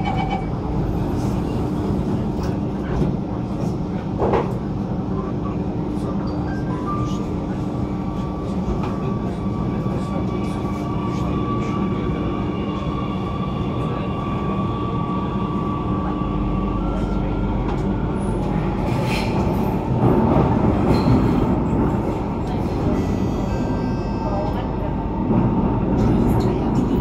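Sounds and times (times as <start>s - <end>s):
metro train rumble: 0.0s - 27.0s.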